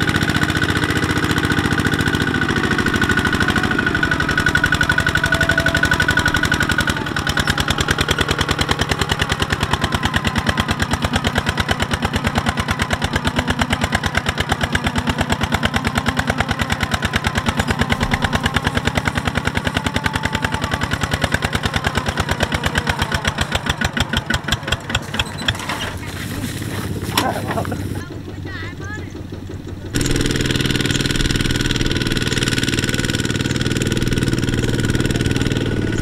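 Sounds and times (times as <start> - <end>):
diesel engine chugging: 0.0 - 36.0.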